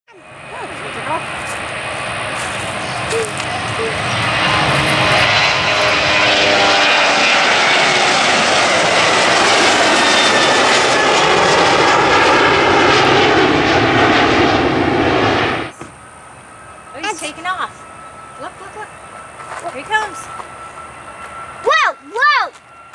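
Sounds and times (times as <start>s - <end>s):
jet airliner taking off: 0.1s - 22.9s
jet engine whine: 0.1s - 22.9s.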